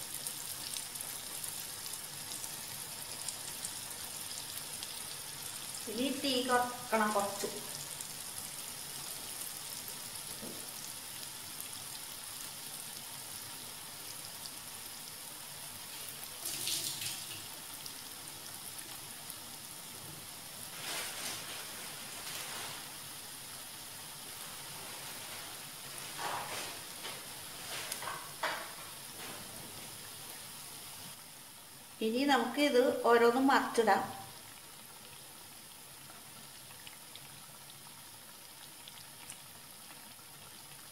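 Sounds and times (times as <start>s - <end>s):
batter sizzling in oil: 0.0s - 40.9s.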